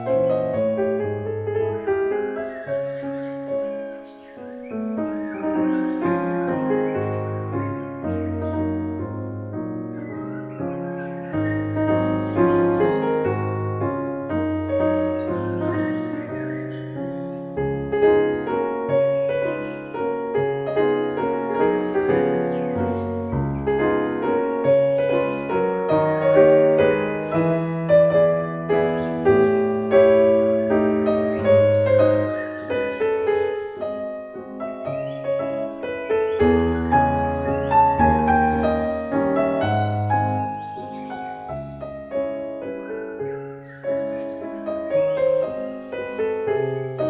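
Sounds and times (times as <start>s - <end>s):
soft piano music: 0.0s - 47.0s.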